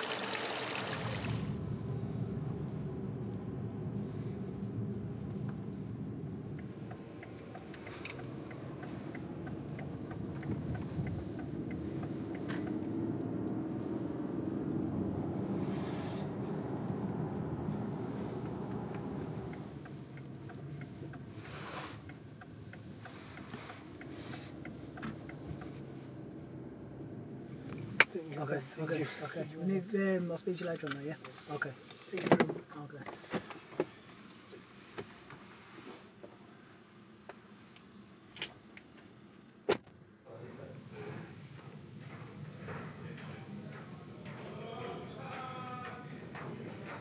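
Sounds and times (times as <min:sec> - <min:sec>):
car cabin road and engine rumble: 0:00.8 - 0:44.2.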